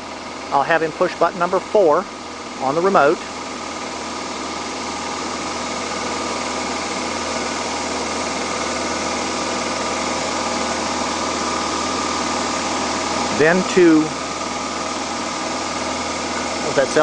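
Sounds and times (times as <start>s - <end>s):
generator engine hum: 0.0s - 17.0s.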